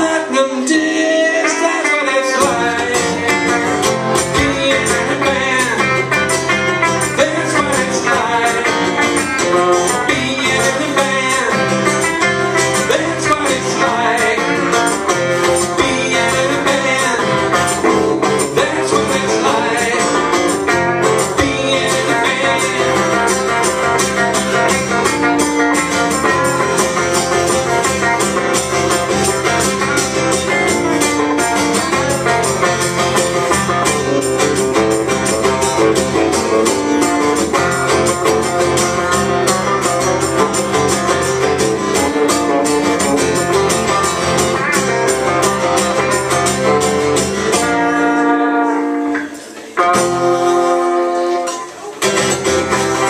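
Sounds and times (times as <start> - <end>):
acoustic guitar strumming: 0.0 - 53.0
electric guitar playing: 0.0 - 53.0.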